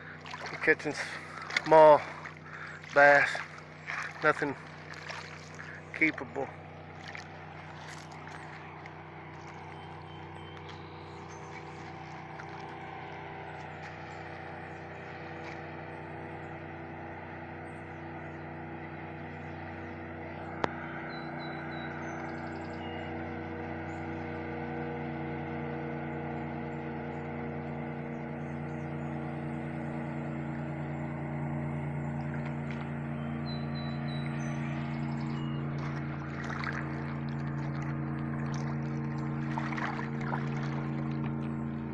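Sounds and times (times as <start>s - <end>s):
boat engine droning: 0.0s - 41.9s.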